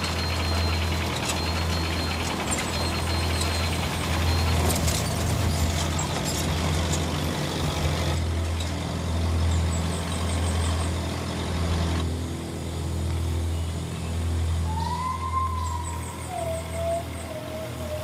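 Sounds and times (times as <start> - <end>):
heavy vehicle engine humming: 0.0 - 18.0.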